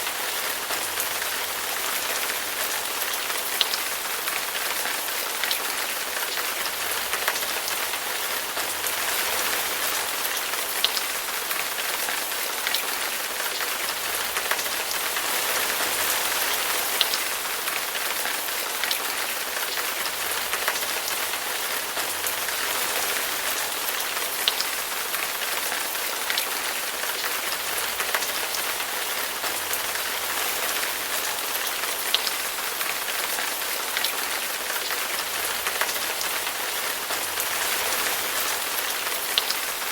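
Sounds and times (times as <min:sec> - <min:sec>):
raindrops ticking on surface: 0:00.0 - 0:39.9.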